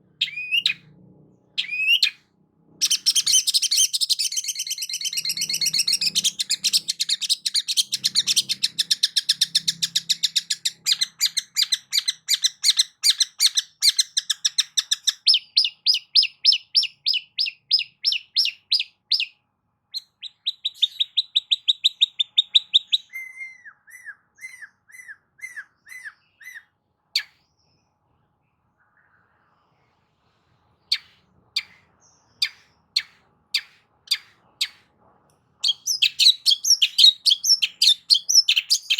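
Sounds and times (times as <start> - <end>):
bird singing chatter and sharp notes: 0.0 - 2.2, 2.8 - 29.5, 30.8 - 34.9, 35.6 - 38.9.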